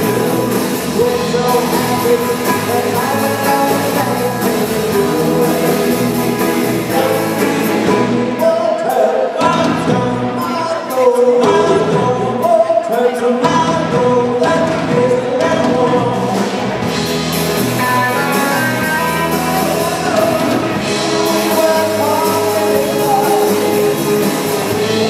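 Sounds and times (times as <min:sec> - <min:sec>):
person singing lead vocal: 0:00.0 - 0:16.6, 0:17.7 - 0:25.0
live rock band playing: 0:00.0 - 0:25.0.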